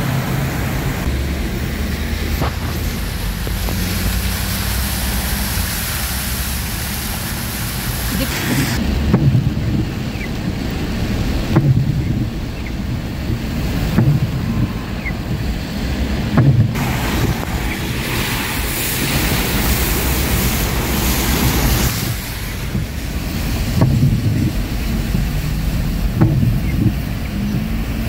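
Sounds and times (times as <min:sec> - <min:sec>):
rushing water in heavy rain: 0:00.0 - 0:28.0
wind rumble on microphone: 0:00.0 - 0:28.0.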